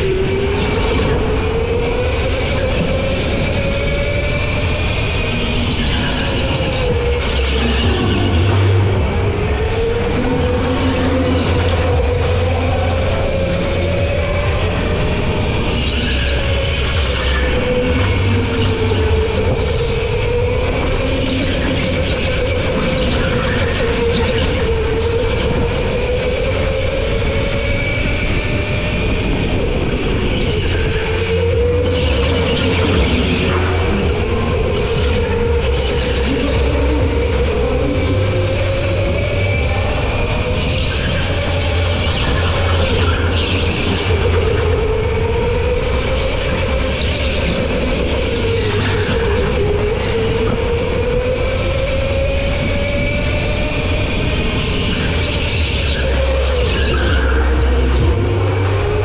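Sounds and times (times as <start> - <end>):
go-kart engine whine: 0.0 - 59.0.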